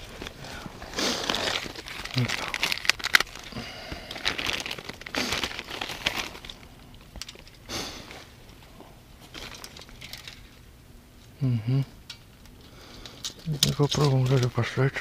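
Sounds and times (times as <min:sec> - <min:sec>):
plastic crinkling and rustling: 0:00.0 - 0:10.6, 0:12.3 - 0:15.0.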